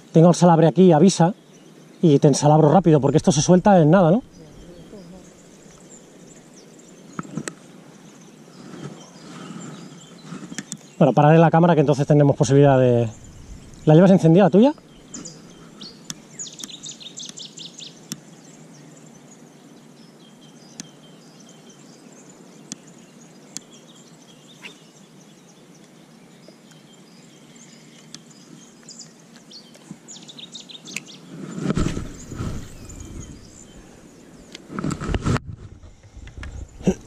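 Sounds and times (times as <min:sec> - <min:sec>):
faint steady hum: 0:00.0 - 0:37.0
small birds chirping: 0:00.0 - 0:37.0.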